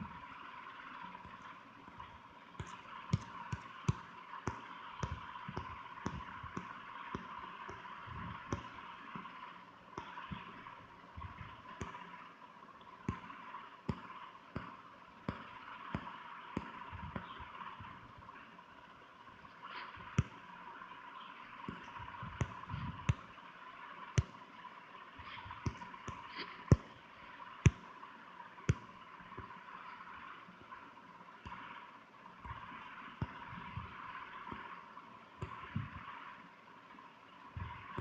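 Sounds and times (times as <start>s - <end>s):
faint high hum: 0.0s - 38.0s.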